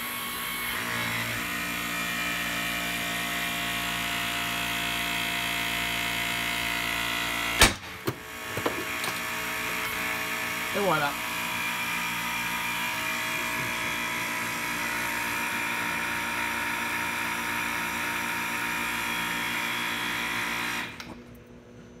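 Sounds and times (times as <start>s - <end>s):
hydraulic pump humming: 0.0s - 21.3s.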